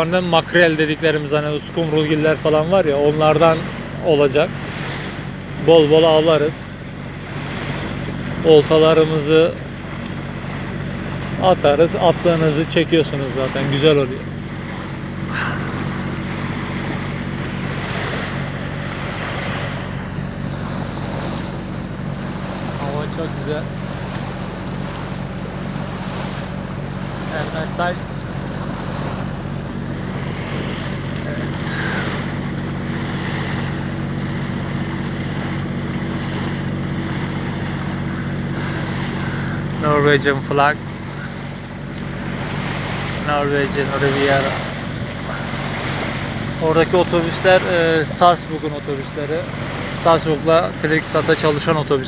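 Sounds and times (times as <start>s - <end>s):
motorboat engine humming: 0.0s - 52.0s
water rushing along hull: 0.0s - 52.0s.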